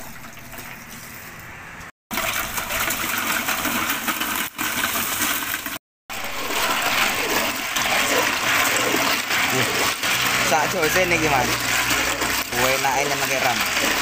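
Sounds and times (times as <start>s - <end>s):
ice cubes sloshing in liquid: 2.1s - 14.0s
liquid pouring into plastic bucket: 2.1s - 14.0s
wooden stick stirring: 2.2s - 14.0s.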